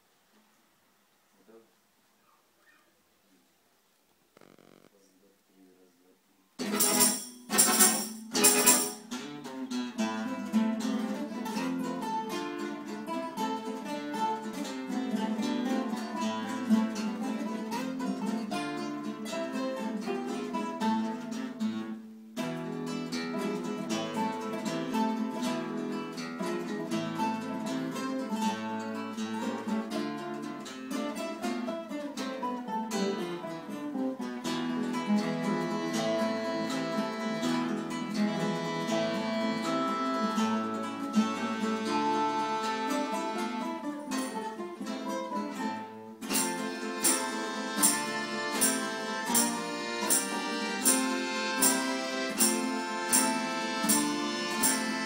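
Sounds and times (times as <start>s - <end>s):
guitar ensemble playing a waltz: 6.6s - 55.0s.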